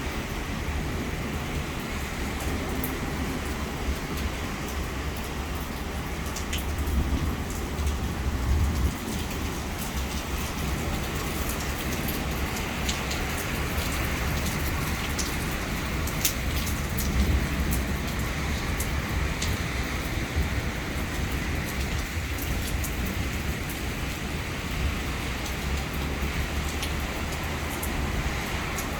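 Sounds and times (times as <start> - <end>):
heavy rain pouring: 0.0 - 28.9
wind rumbling on microphone: 0.0 - 28.9
raindrops ticking on hard surfaces: 0.1 - 28.9.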